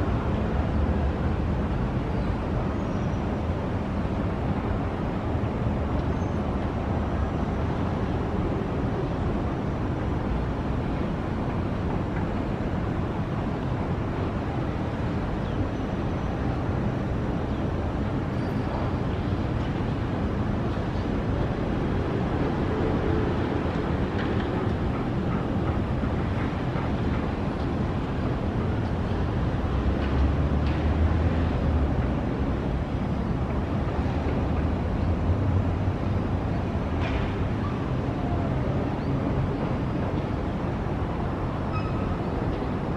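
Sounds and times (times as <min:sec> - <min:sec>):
low rumbling ambient noise: 0:00.0 - 0:42.9.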